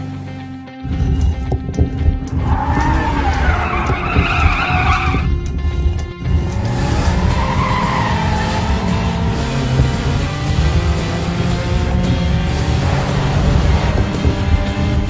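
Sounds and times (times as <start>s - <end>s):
cartoon car engine noise: 2.3s - 15.0s
tyres screeching: 2.3s - 15.0s.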